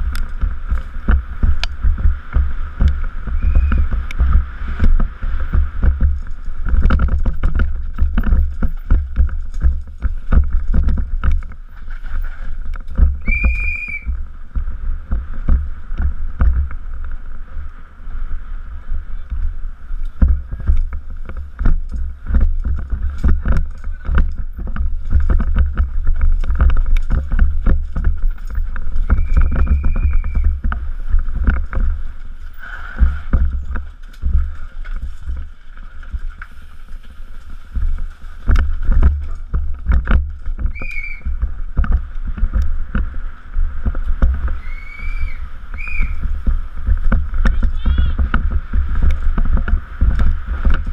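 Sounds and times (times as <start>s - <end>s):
bike rattling and knocking: 0.0s - 17.7s, 18.8s - 50.9s
wind buffeting microphone: 0.0s - 50.9s.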